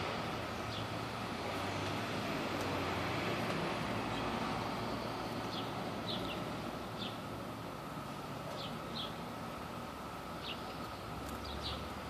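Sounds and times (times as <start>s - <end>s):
cicadas chorusing drone: 0.0s - 12.0s.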